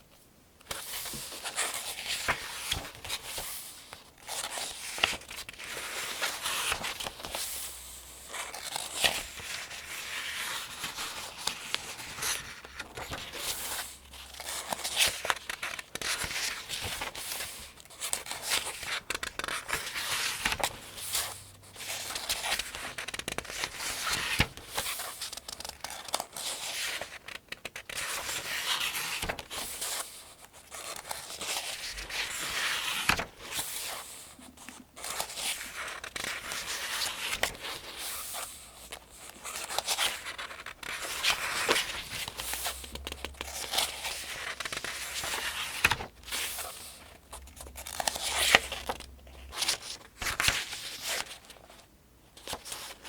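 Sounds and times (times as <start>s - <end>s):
paper pages turning: 0.7s - 51.8s, 52.4s - 53.0s.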